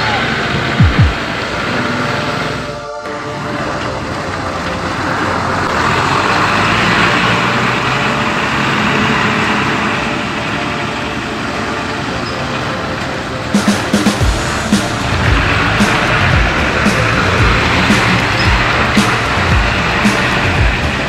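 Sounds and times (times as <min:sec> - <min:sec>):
truck engine running: 0:00.0 - 0:21.0
tyres on wet dirt: 0:03.6 - 0:21.0.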